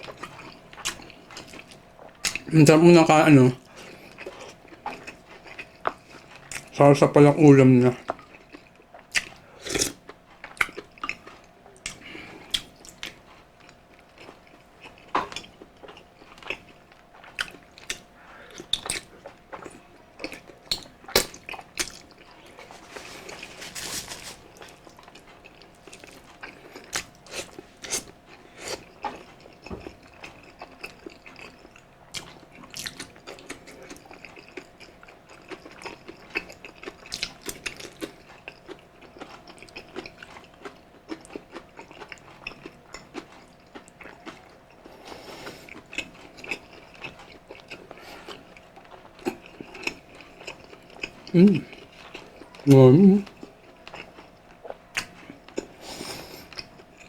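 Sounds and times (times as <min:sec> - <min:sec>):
wet chewing and lip-smacking: 0:00.0 - 0:02.5, 0:03.6 - 0:06.8, 0:08.0 - 0:57.0.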